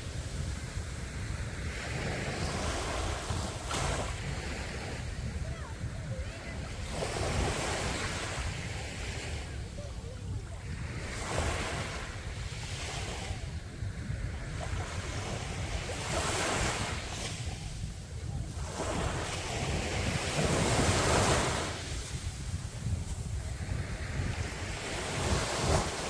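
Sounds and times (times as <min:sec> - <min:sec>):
sea waves breaking on beach: 0:00.0 - 0:26.0
wind on microphone: 0:00.0 - 0:26.0.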